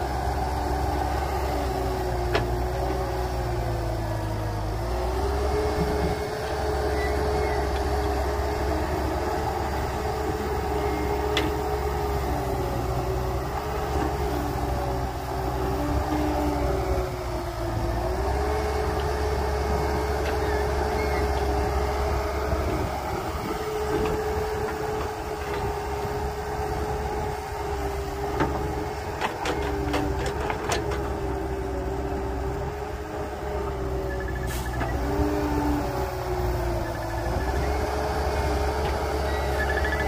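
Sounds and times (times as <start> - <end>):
constant machine whine: 0.0 - 40.0
diesel machinery engine rumble: 0.0 - 40.0.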